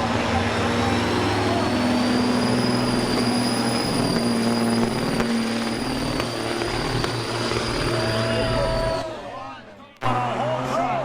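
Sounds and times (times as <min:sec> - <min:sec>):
steady high whine: 0:00.0 - 0:10.4
diesel engine running hard: 0:00.0 - 0:11.0.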